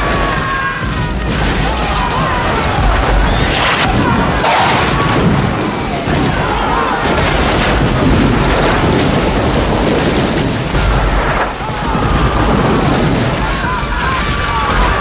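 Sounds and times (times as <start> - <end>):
roar of explosions: 0.0 - 15.0.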